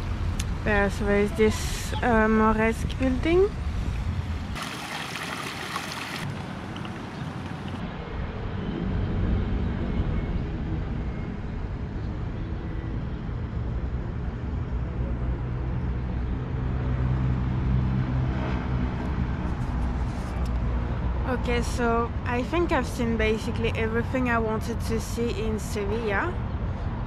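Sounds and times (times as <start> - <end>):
rumble of passing vehicles: 0.0 - 27.0.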